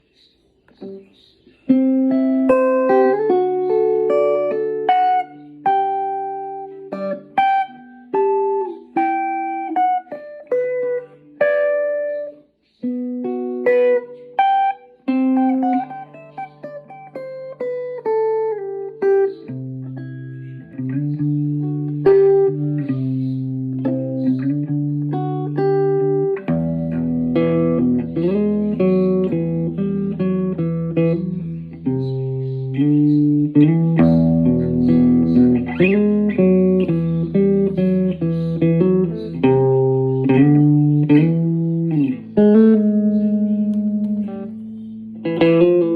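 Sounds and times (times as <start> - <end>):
guitar plucked notes: 0.7 - 45.9
lower guitar notes: 0.7 - 45.9.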